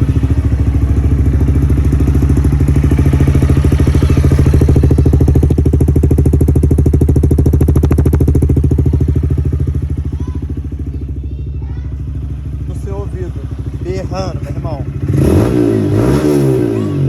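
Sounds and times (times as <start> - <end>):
motorcycle engine idling loudly: 0.0 - 17.0.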